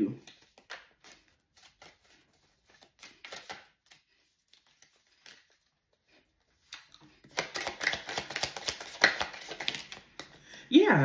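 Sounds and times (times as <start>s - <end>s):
cards being shuffled: 0.2s - 10.7s.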